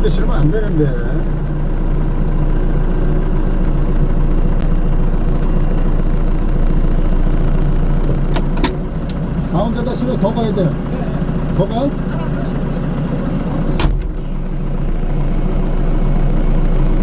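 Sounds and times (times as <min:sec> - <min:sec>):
forklift engine running: 0:00.0 - 0:17.0.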